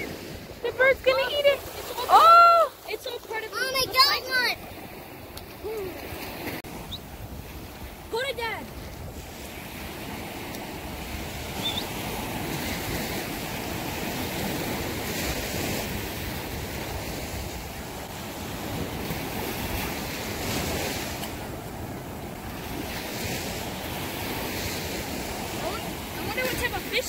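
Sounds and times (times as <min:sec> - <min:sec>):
surf washing up the beach: 0:00.0 - 0:27.0
wind rumbling on microphone: 0:04.3 - 0:27.0.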